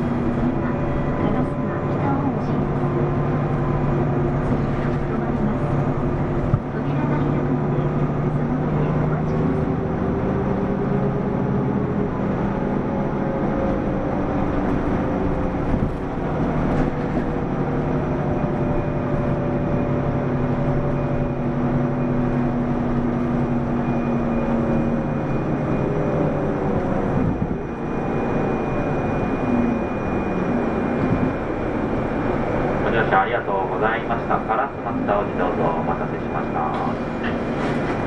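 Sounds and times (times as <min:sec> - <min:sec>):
bus engine from inside: 0:00.0 - 0:38.0.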